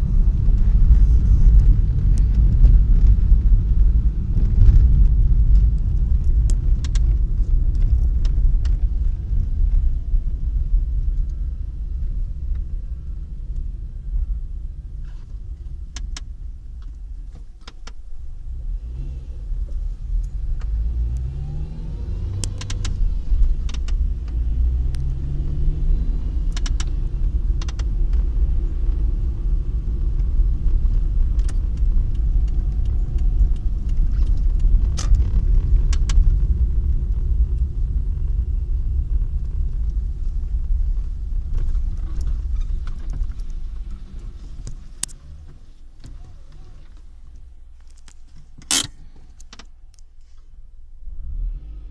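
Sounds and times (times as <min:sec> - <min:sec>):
car engine accelerating: 0:00.0 - 0:16.4, 0:18.3 - 0:47.6, 0:51.0 - 0:51.9.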